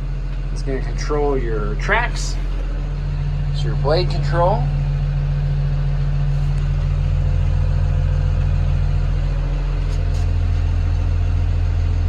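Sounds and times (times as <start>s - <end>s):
bulldozer diesel engine humming: 0.0s - 12.0s.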